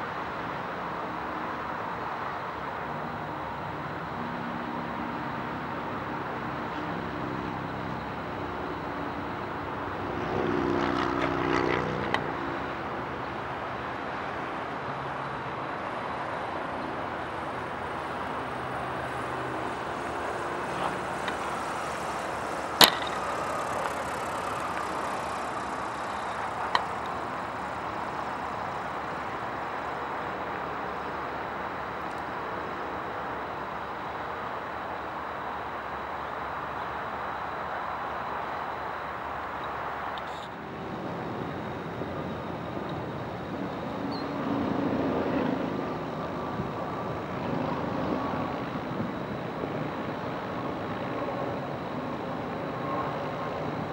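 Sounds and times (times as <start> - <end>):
distant engine hum: 0.0 - 53.9
outdoor noise: 0.0 - 53.9.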